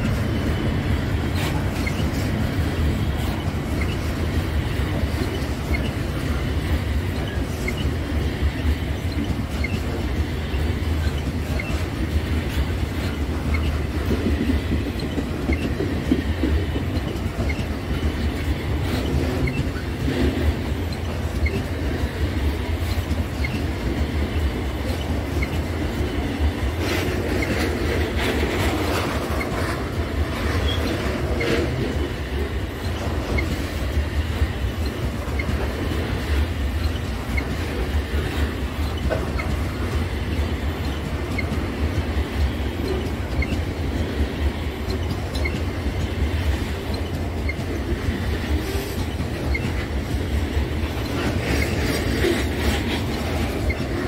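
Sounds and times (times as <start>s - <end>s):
train wheels rumbling on rail: 0.0s - 54.0s
wheels clacking over rail joints: 0.0s - 54.0s.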